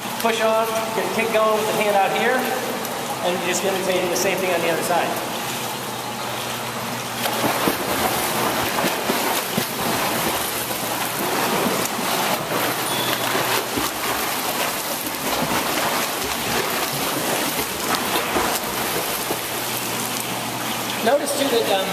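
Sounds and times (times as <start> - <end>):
water splashing from swimming: 0.7 - 21.9.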